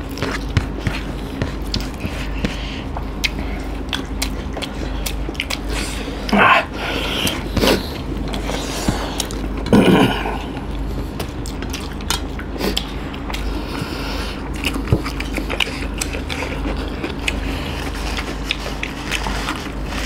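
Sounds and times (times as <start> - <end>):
chewing and crunching cucumber: 0.0 - 20.0
steady low hum: 0.0 - 20.0.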